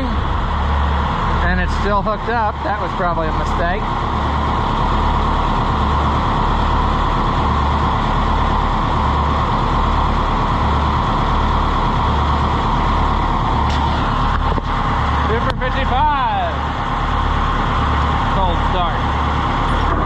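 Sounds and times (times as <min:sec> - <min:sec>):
tractor engine throbbing: 0:00.0 - 0:20.0.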